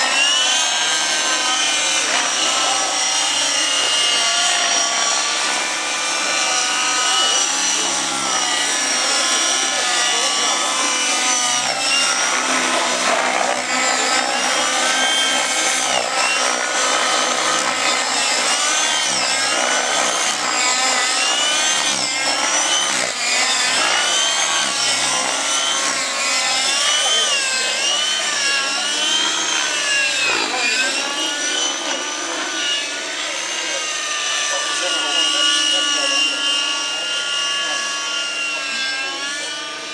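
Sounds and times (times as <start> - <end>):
model helicopters whining: 0.0 - 39.9.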